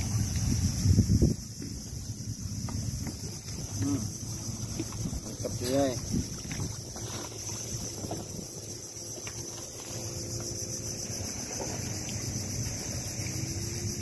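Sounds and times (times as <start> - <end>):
high drone of insects: 0.0 - 14.0
water moving around boat: 0.0 - 14.0
wind buffeting microphone: 0.0 - 14.0.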